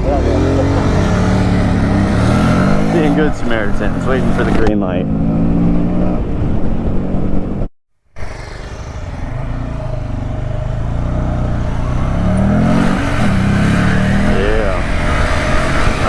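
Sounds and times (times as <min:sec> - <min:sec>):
mini motorcycle engine revving: 0:00.0 - 0:06.0, 0:08.2 - 0:16.0.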